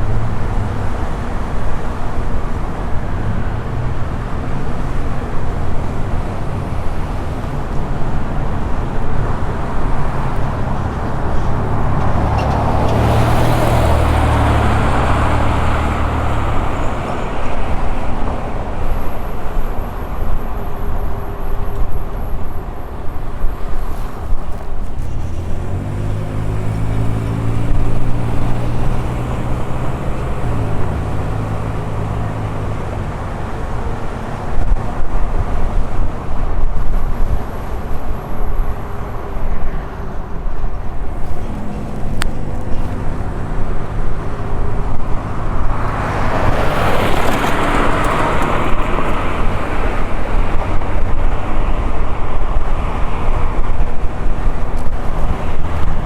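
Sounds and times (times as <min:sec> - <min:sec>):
road rumble: 0:00.0 - 0:56.0
rushing noise: 0:00.0 - 0:56.0
wind noise: 0:00.0 - 0:56.0.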